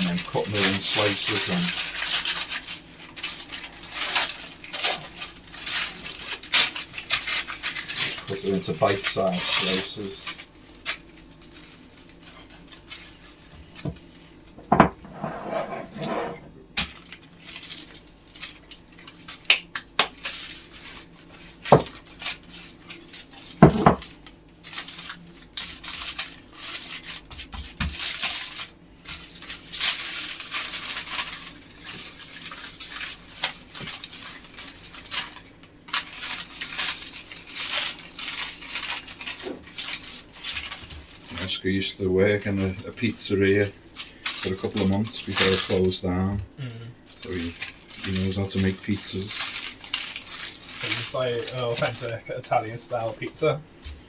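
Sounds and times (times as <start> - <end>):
scraping and rustling: 0.0 - 19.4, 20.2 - 41.6, 47.1 - 52.3.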